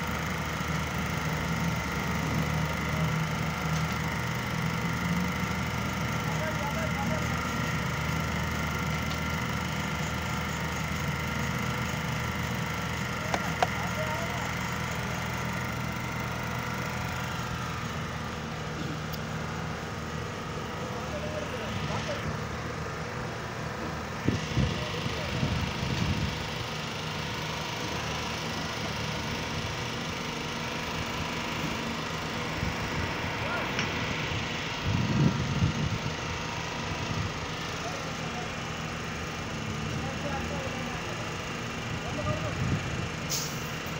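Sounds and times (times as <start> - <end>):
engine humming: 0.0 - 43.9.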